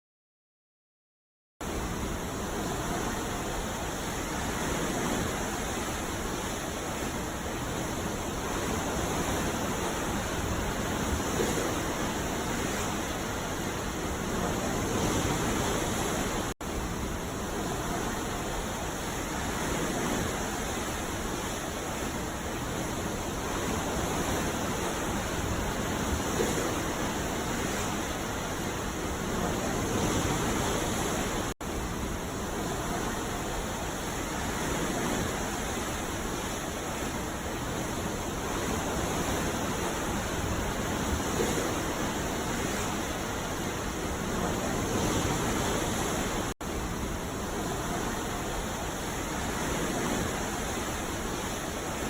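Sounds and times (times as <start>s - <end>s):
ocean waves breaking: 1.6s - 52.0s.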